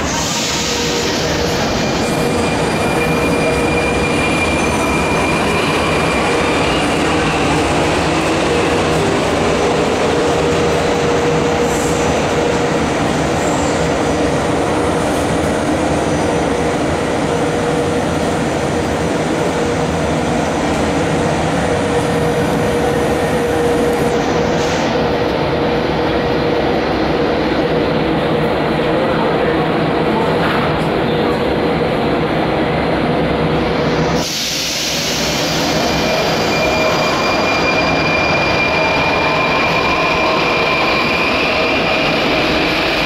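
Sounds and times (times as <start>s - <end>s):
metro train running noise: 0.0s - 43.0s.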